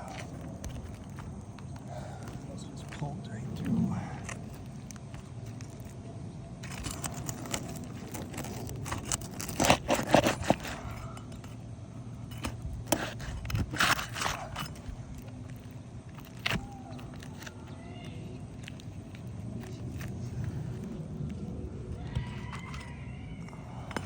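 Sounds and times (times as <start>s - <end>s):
tools scraping and clicking on shingles: 0.0s - 24.0s.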